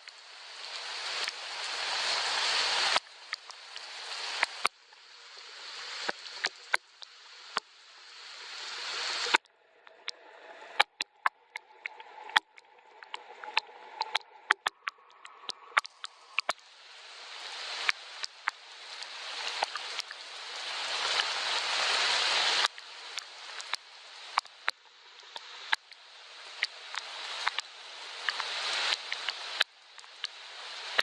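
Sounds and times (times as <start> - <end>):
rain hiss: 0.0 - 31.0
raindrops pattering: 0.0 - 31.0
scattered drips: 0.0 - 31.0.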